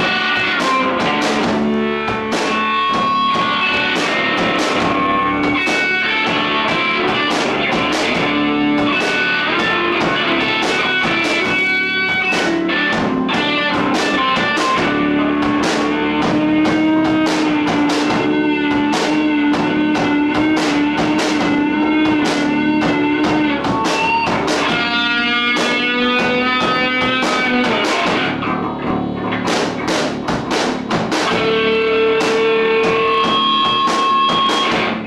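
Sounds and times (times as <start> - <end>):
electric guitars: 0.0 - 35.0
steady drum beat: 0.0 - 35.0.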